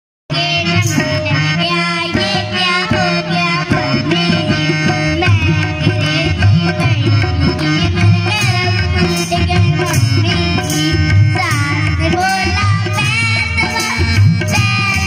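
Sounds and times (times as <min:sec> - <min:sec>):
harmonium melody: 0:00.3 - 0:15.0
hand drum rhythm: 0:02.2 - 0:15.0.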